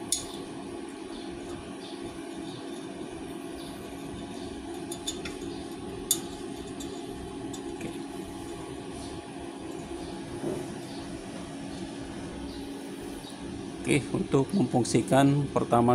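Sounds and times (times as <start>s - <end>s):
welder electric hum: 0.0s - 15.9s.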